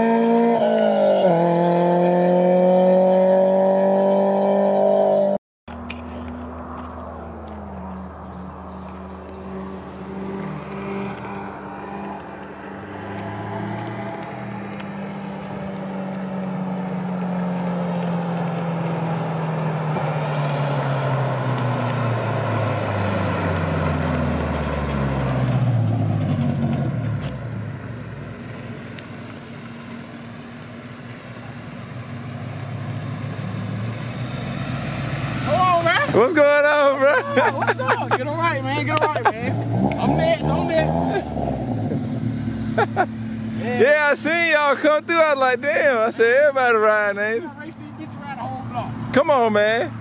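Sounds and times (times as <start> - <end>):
car engine driving: 0.0 - 50.0.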